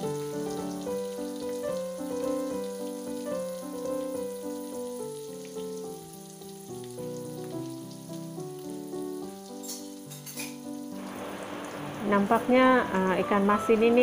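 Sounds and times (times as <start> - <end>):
oil crackling: 0.0 - 12.0
fish frying in hot oil: 0.0 - 13.2
slow instrumental background music: 0.0 - 14.0.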